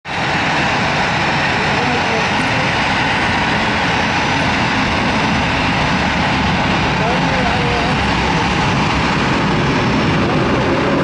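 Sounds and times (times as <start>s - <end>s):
jet engines at takeoff power: 0.0s - 11.0s.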